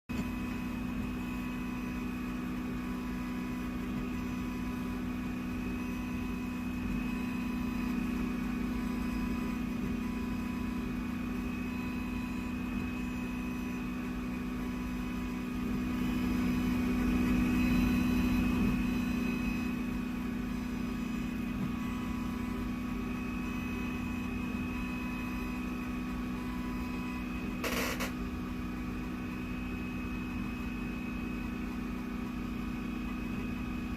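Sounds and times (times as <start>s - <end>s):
machine humming: 0.1s - 33.9s.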